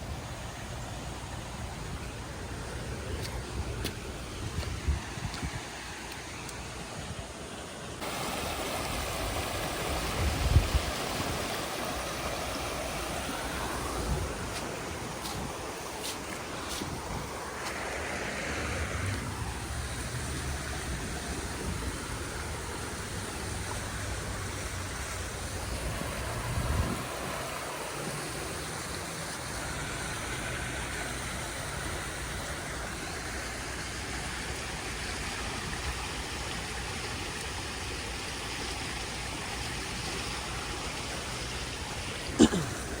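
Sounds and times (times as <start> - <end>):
floodwater rushing: 0.0 - 43.0.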